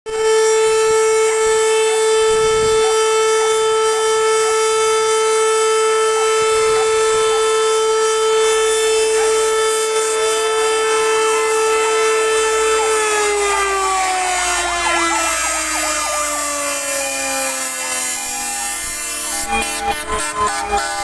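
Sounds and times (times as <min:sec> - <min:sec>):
faint gliding siren tones: 0:00.1 - 0:21.0
siren steady tone: 0:00.1 - 0:21.0.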